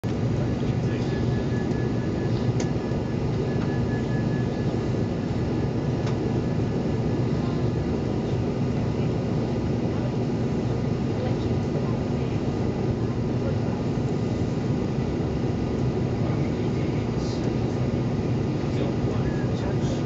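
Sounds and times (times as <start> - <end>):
low hum and rumble of trains: 0.0 - 20.0.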